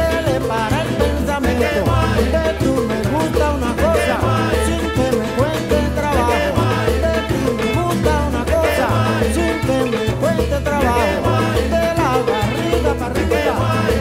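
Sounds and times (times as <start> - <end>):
salsa-like music: 0.0 - 14.0.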